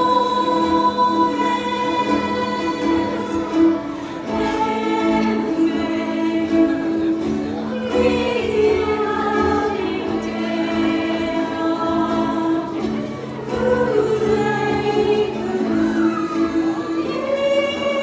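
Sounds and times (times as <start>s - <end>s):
group singing held notes: 0.0s - 18.0s
ukuleles playing: 0.0s - 18.0s.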